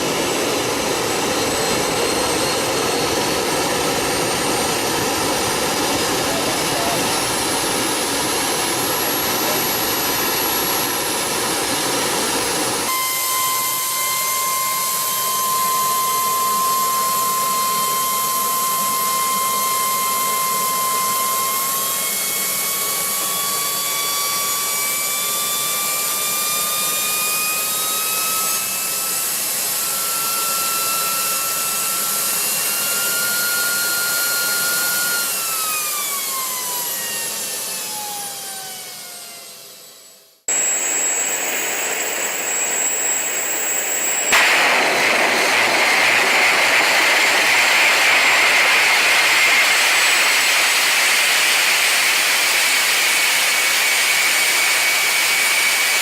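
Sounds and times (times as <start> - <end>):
jet turbine engine: 0.0 - 56.0.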